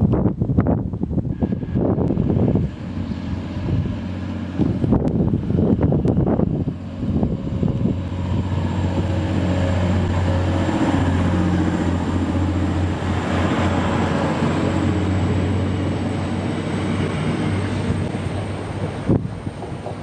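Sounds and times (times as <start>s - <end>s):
train wheels rumbling on rails: 0.0s - 20.0s
diesel engine drone: 0.9s - 20.0s.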